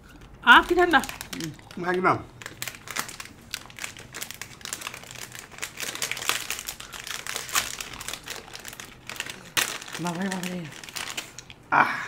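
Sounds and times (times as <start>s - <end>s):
wrapper crinkling: 0.0s - 11.6s.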